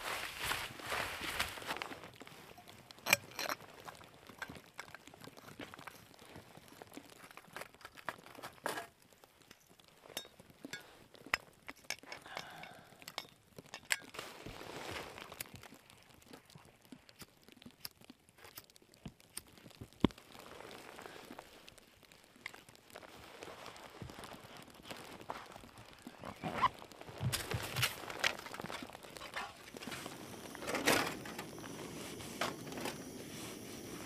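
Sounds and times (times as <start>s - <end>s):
packaging crinkling and rustling: 0.0s - 11.7s, 13.9s - 34.0s.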